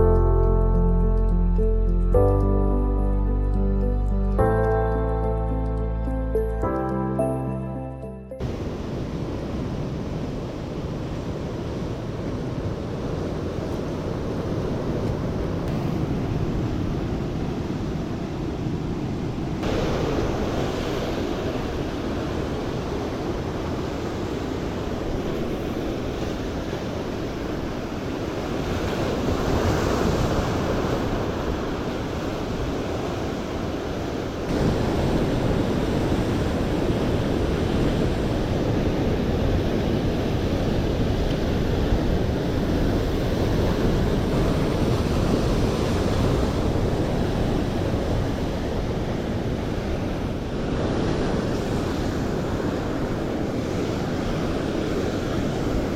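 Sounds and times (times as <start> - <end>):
rough sea surf: 8.4 - 55.9.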